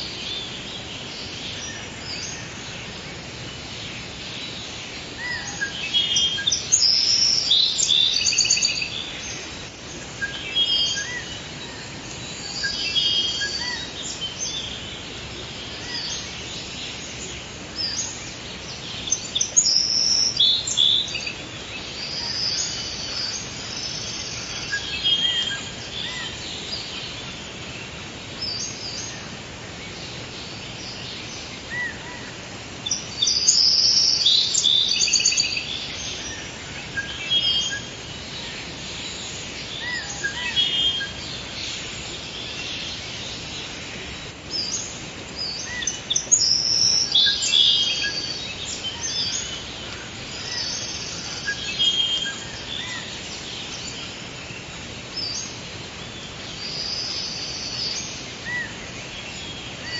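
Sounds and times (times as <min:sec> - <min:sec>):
background hiss: 0:00.0 - 0:59.9
birds chirping and singing: 0:00.0 - 0:59.9.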